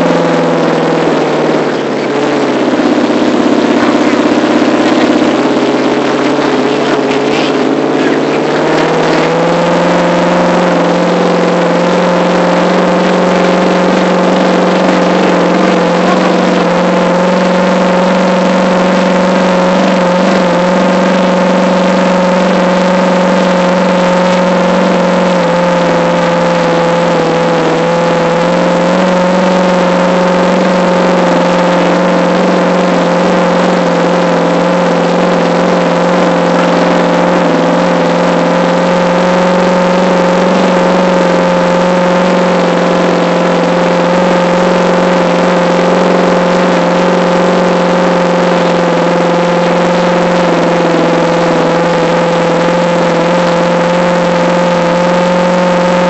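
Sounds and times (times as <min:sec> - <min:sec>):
truck engine running loudly: 0:00.0 - 0:56.0.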